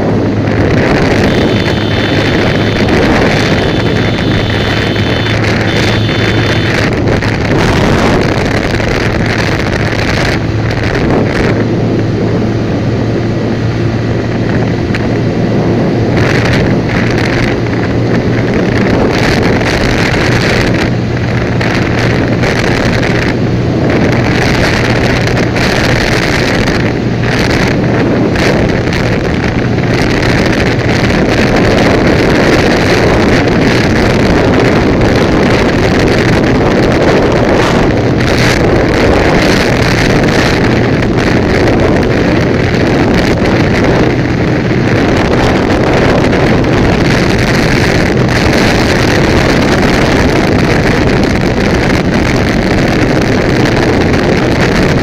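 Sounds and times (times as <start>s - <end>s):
motorcycle engine humming: 0.0s - 55.0s
wind rushing over microphone: 0.0s - 55.0s.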